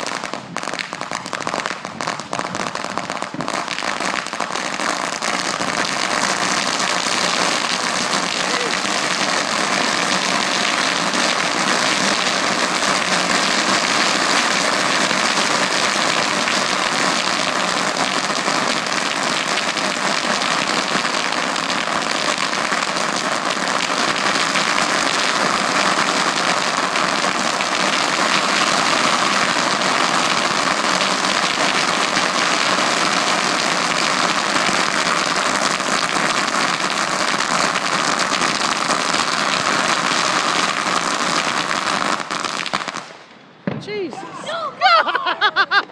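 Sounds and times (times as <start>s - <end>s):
firework hissing crackle: 0.0s - 43.9s.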